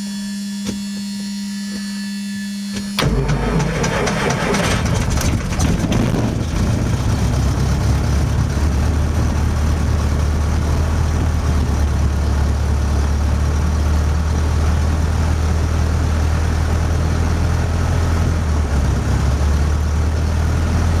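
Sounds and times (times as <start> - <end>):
aircraft engine idling: 3.0 - 21.0.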